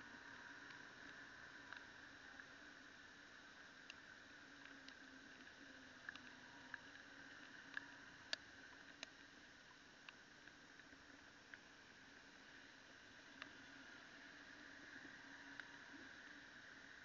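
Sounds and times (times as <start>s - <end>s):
faint clicks: 0.0s - 17.0s
faint hum and hiss: 0.0s - 17.0s.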